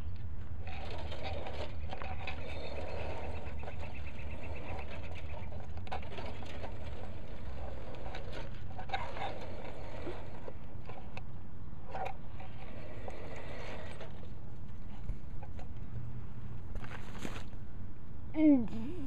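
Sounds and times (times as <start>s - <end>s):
wheels clicking on rails: 0.0s - 17.6s.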